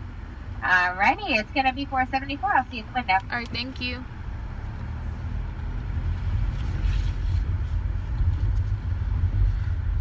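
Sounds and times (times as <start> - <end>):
car rumble from inside cabin: 0.0 - 10.0.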